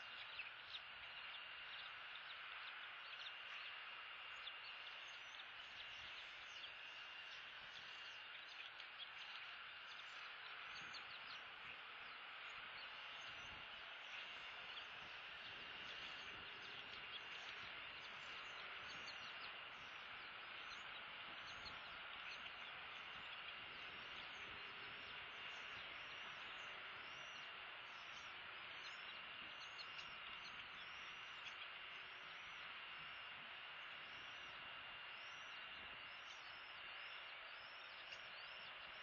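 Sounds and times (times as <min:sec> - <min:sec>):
high steady whine: 0:00.0 - 0:39.0
steady hissing drone: 0:00.0 - 0:39.0.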